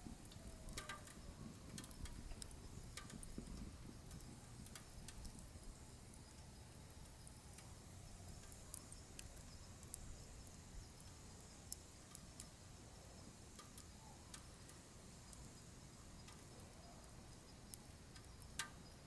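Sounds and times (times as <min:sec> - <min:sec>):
fire pops and snaps: 0:00.0 - 0:12.6, 0:13.5 - 0:19.0
wood fire crackling: 0:00.0 - 0:19.0.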